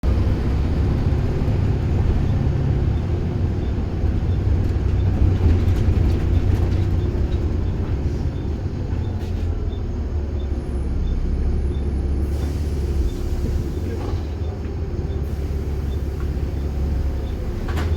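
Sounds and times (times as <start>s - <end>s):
bus engine droning: 0.0s - 17.9s.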